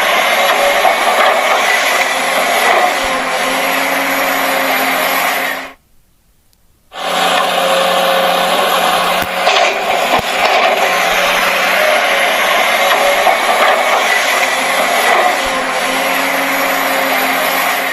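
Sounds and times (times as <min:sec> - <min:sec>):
small electric motors whining: 0:00.0 - 0:05.8, 0:06.9 - 0:17.9.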